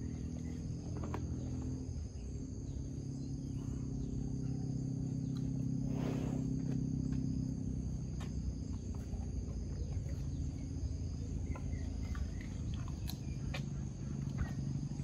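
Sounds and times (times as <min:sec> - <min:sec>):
insects chirring: 0:00.0 - 0:15.0
low steady hum: 0:00.0 - 0:15.0.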